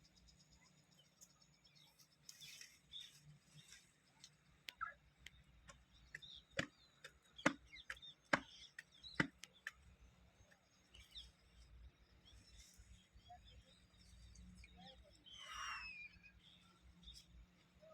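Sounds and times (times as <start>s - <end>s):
faint bird chirps: 0.0s - 9.7s, 10.3s - 17.9s.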